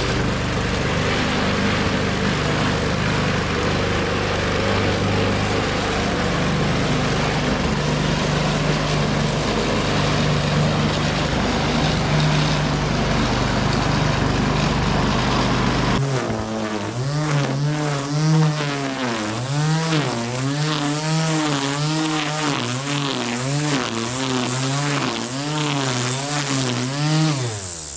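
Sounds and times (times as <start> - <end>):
lawnmower engine running: 0.0 - 27.9.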